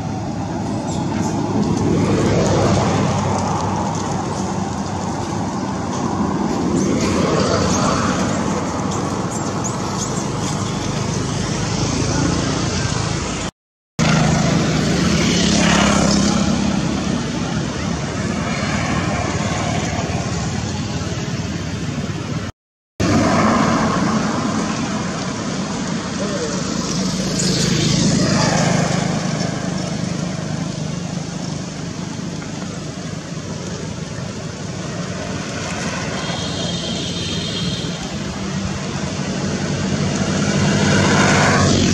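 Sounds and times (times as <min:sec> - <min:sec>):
distant traffic rumble: 0:00.0 - 0:41.9.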